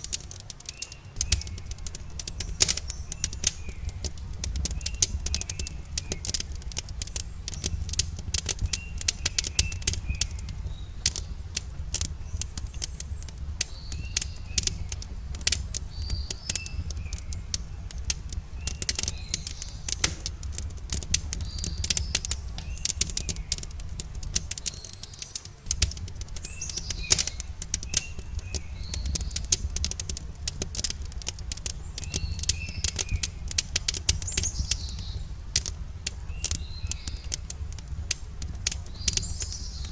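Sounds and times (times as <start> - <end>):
campfire crackling and popping: 0.0 - 39.9
small birds chirping: 0.0 - 39.9
steady low rumble: 0.0 - 39.9.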